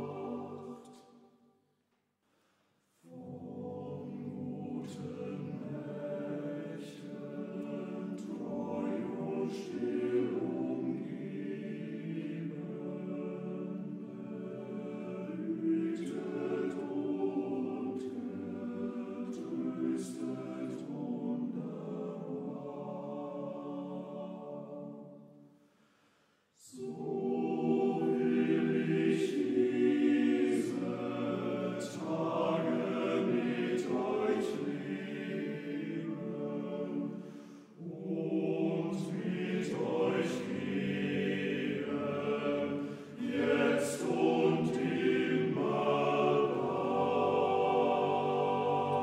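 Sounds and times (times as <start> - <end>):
men's choir singing: 0.0 - 1.2, 3.1 - 25.3, 26.6 - 49.0.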